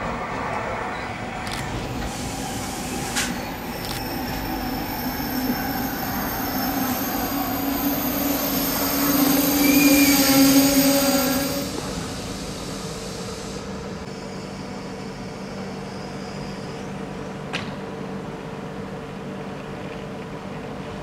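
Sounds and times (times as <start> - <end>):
train low hum: 0.0 - 21.0
train brakes squealing: 0.6 - 17.9.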